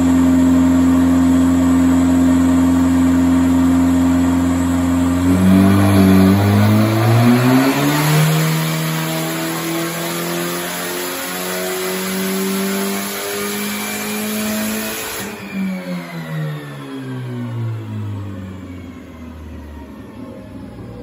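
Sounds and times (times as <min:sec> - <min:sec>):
car engine revving high: 0:01.4 - 0:21.0.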